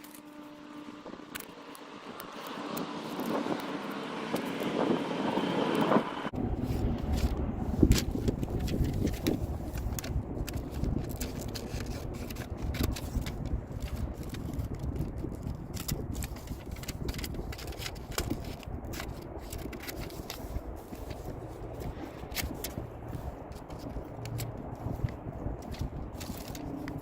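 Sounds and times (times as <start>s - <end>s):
paper rustling and scraping: 0.0s - 5.0s, 5.8s - 27.0s
low background rumble: 0.0s - 27.0s.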